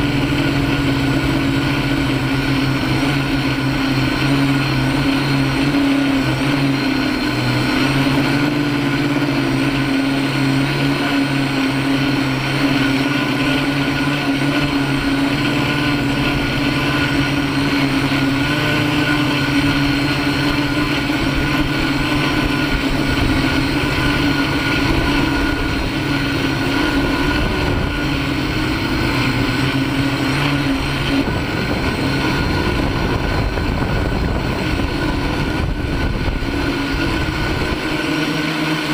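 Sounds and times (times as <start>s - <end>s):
drone motors droning: 0.0s - 38.9s
wind noise on microphone: 0.0s - 38.9s.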